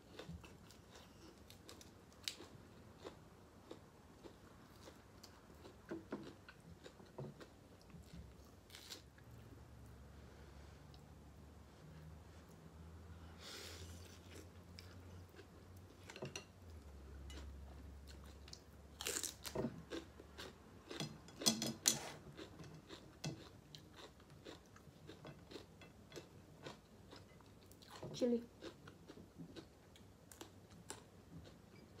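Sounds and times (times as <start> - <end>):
chewing and crunching mouth sounds: 0.0 - 9.0, 14.0 - 32.0.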